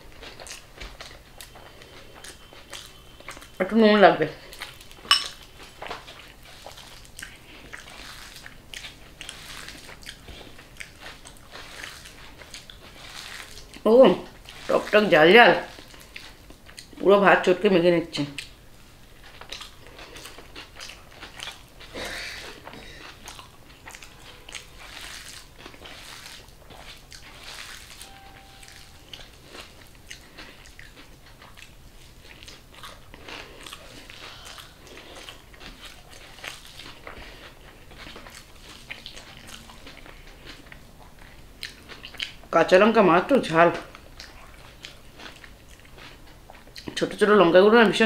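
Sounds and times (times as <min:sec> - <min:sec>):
chewing with crunchy bites: 0:00.0 - 0:48.0.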